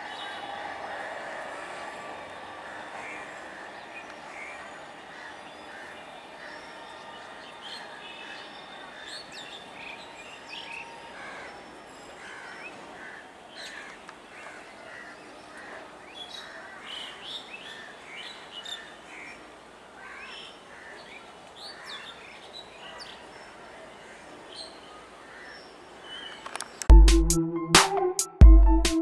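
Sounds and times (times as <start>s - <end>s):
birds chirping: 0.0s - 26.9s
outdoor background hiss: 0.0s - 26.9s.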